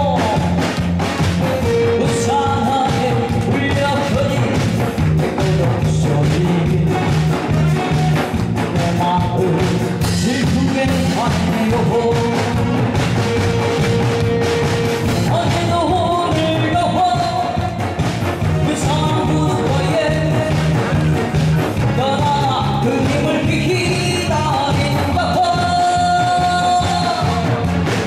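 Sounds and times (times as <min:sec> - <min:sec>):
person singing: 0:00.0 - 0:27.8
backing track with steady beat: 0:00.0 - 0:28.0.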